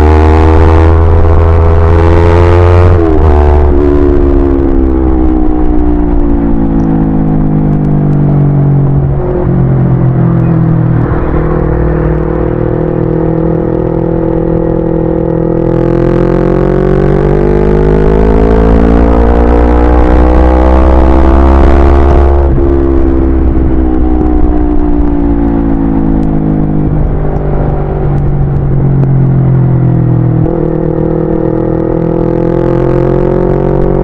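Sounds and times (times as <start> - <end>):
low wind rumble: 0.0 - 34.0
motorcycle engine revving: 0.0 - 34.0.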